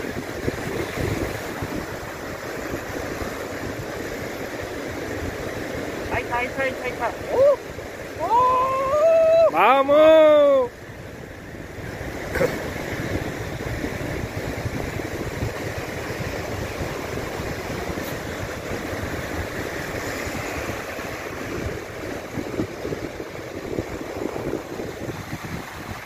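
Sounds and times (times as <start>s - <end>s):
waves washing on a beach: 0.0s - 26.0s
wind on the microphone: 0.0s - 26.0s.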